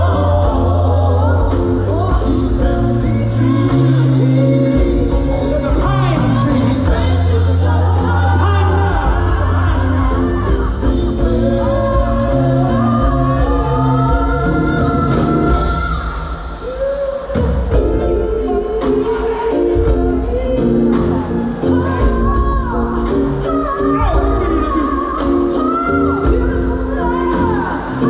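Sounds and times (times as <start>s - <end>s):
bass: 0.0s - 28.0s
choir singing gospel: 0.0s - 28.0s
steady drum beat: 0.0s - 28.0s.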